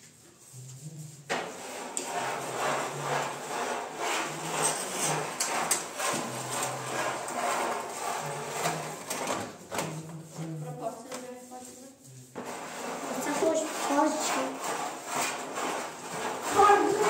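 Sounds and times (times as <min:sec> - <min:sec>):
rhythmic scraping strokes: 0:00.0 - 0:17.0.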